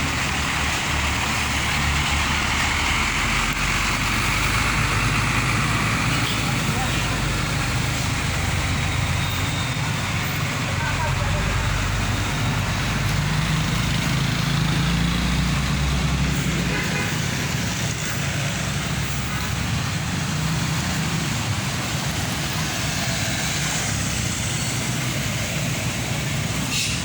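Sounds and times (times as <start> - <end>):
diesel truck engine running: 0.0 - 27.0
road noise: 0.0 - 27.0.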